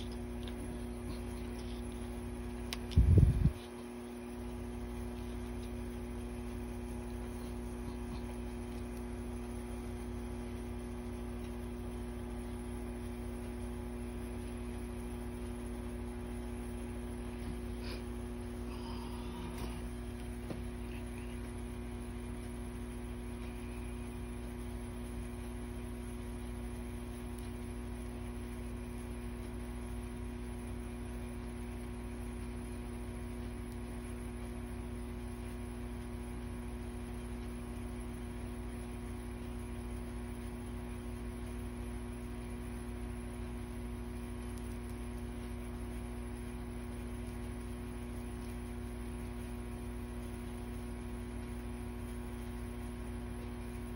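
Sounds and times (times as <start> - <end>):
electrical hum with steady tones: 0.0 - 53.9.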